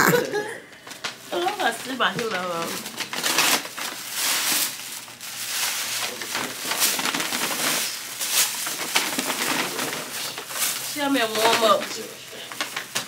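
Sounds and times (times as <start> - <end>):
packaging rustling and crinkling: 0.8 - 13.0.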